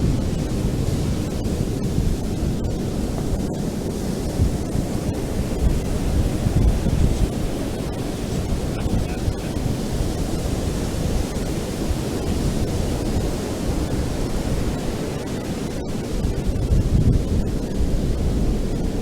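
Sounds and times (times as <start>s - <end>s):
ocean surf on beach: 0.0s - 19.0s
wind buffeting microphone: 0.0s - 19.0s.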